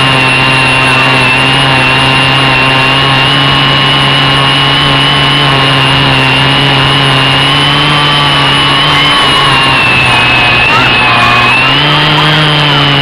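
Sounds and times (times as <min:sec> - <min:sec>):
quadcopter propellers whirring: 0:00.0 - 0:13.0.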